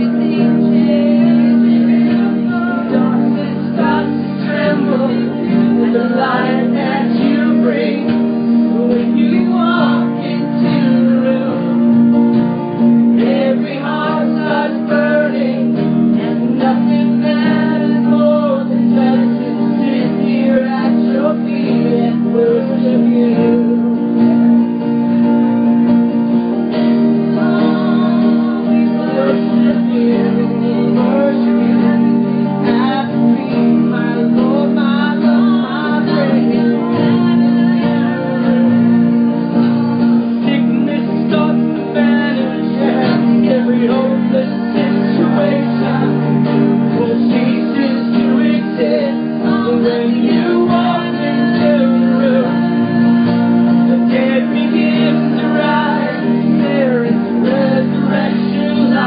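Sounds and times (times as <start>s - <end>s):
woman singing: 0.0s - 12.2s, 12.8s - 24.6s, 26.8s - 59.0s
people singing a worship song: 0.0s - 24.7s, 26.6s - 59.0s
acoustic guitars strumming: 0.0s - 59.0s.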